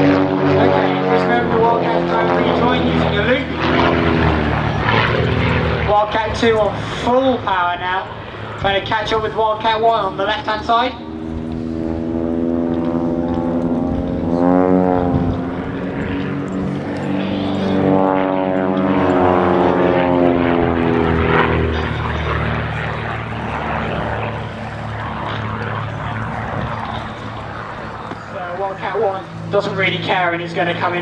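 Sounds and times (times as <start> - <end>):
propeller plane engines at full power: 0.0 - 31.0.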